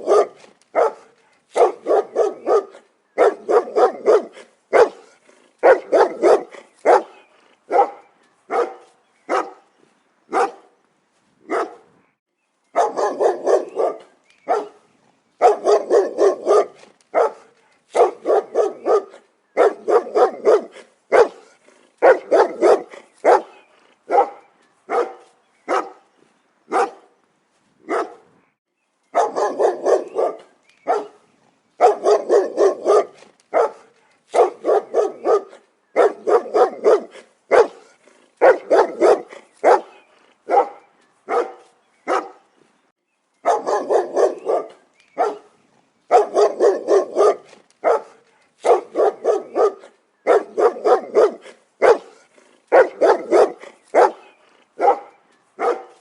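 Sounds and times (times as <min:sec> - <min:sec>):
dog barking: 0:00.0 - 0:09.6, 0:10.3 - 0:10.7, 0:11.5 - 0:11.9, 0:12.8 - 0:14.8, 0:15.4 - 0:26.0, 0:26.7 - 0:27.1, 0:27.9 - 0:28.3, 0:29.2 - 0:31.2, 0:31.8 - 0:42.4, 0:43.4 - 0:56.0.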